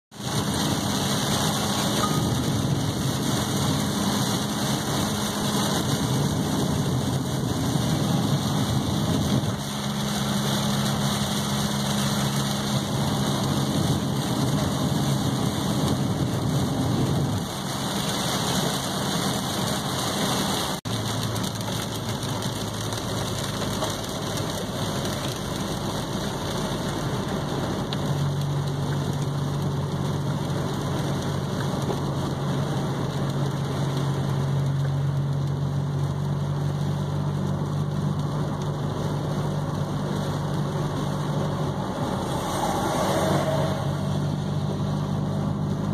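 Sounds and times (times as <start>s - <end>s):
car engine hum: 0.1s - 45.9s
heavy rain on car windshield: 0.1s - 45.9s
tyres on wet road: 0.1s - 45.9s.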